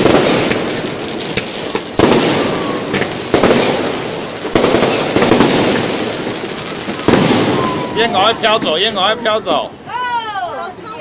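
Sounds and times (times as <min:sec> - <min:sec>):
firework booms: 0:00.0 - 0:09.0
firework crackling: 0:00.0 - 0:09.7.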